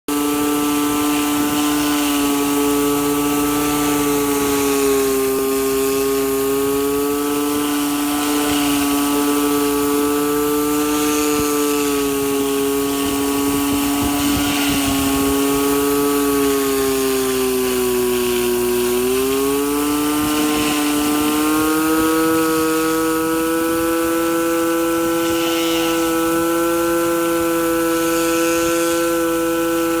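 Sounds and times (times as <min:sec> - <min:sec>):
pressure washer motor hum: 0:00.1 - 0:30.0
water spray hissing on concrete: 0:00.1 - 0:30.0.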